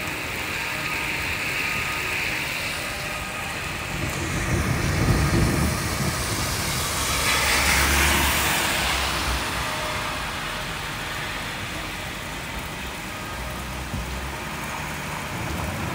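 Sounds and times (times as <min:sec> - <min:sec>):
heavy rain: 0:00.0 - 0:15.9
tyre hiss on wet road: 0:00.0 - 0:15.9.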